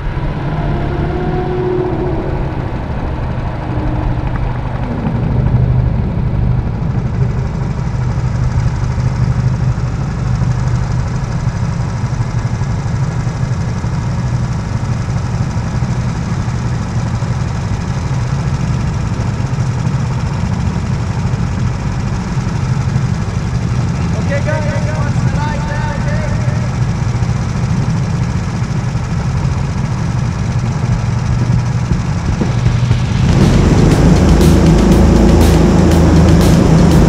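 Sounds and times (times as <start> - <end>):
go-kart engine idling: 0.0 - 37.0.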